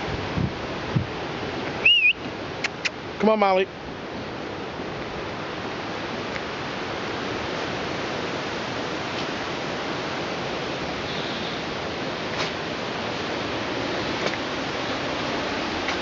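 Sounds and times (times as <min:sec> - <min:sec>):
hurricane wind rushing: 0:00.0 - 0:16.0.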